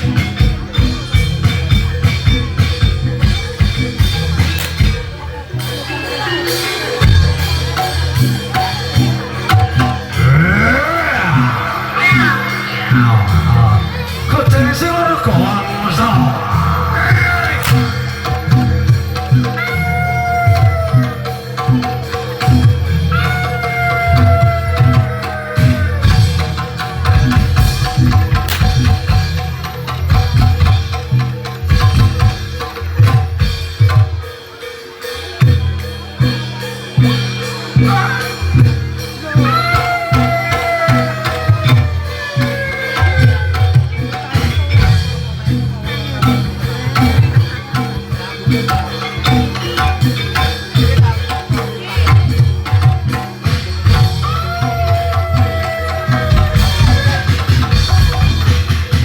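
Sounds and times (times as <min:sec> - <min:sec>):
hand drums beating: 0:00.0 - 0:05.7, 0:06.4 - 0:59.0.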